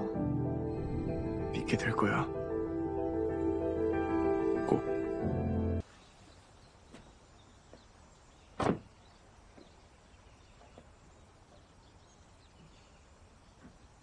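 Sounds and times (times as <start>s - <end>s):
outdoor ambience: 0.0s - 14.0s.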